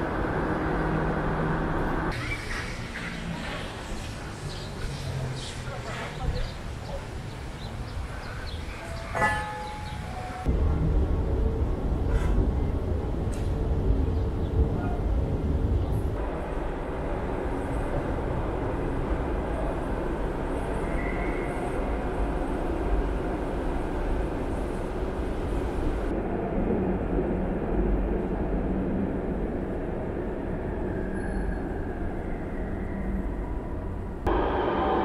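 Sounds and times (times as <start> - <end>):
low rumble and hiss of metro station: 0.0 - 9.1, 9.9 - 35.0.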